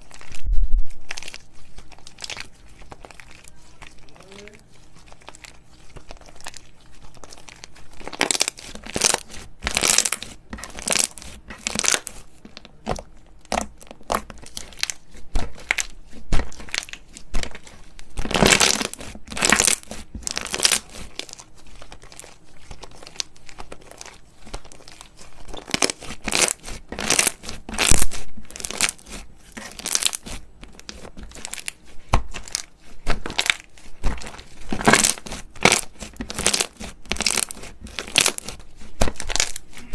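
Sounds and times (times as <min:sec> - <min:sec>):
crunchy slime crackling: 0:00.0 - 0:39.9.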